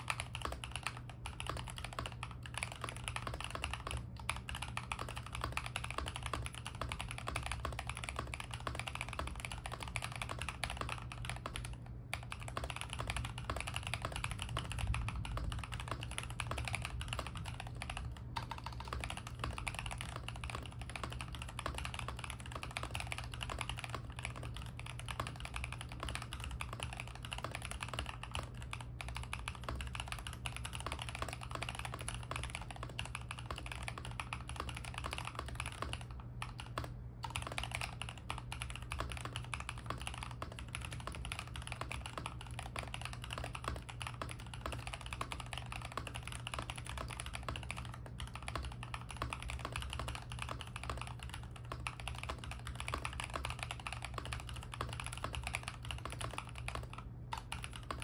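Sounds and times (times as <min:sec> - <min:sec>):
typing on mechanical keyboard: 0:00.0 - 0:58.0.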